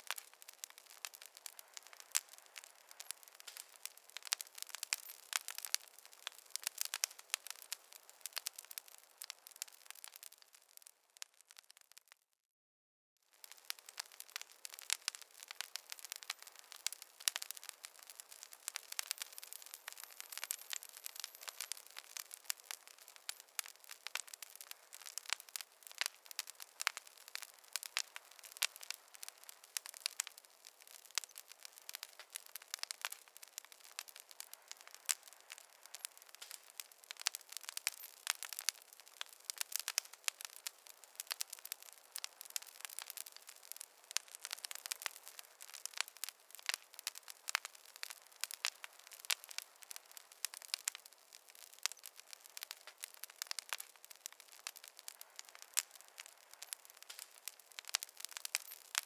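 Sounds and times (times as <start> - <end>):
campfire crackling and popping: 0.0 - 12.2, 13.3 - 59.0.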